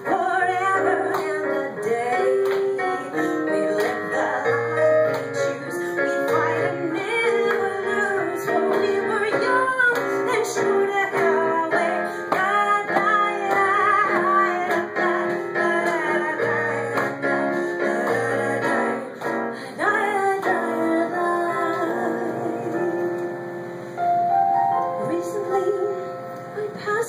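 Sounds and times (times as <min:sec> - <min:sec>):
woman singing with vibrato: 0:00.0 - 0:23.2, 0:25.0 - 0:27.0
keyboard accompaniment: 0:00.0 - 0:27.0.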